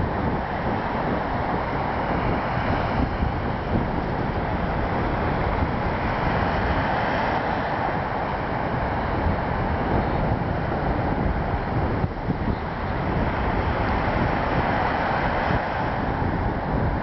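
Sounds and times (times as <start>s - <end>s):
surf: 0.0s - 17.0s
wind buffeting microphone: 0.0s - 17.0s.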